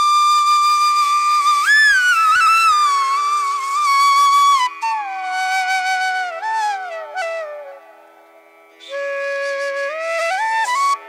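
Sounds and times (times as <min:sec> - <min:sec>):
solo flute melody: 0:00.0 - 0:11.0.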